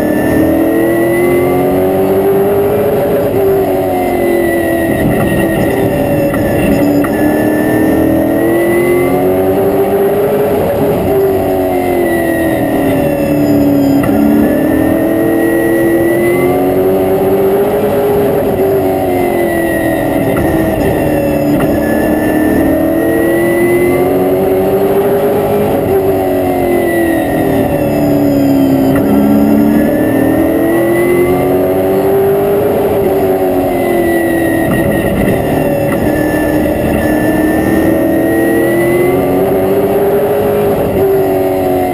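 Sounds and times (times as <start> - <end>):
race car engine revving: 0.0 - 41.9
road noise: 0.0 - 41.9.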